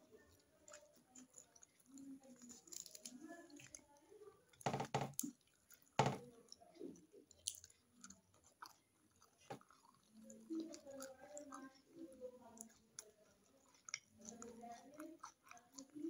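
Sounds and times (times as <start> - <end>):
close-up chewing: 0.0 - 16.0
lip and teeth clicks: 0.3 - 3.9, 4.5 - 16.0.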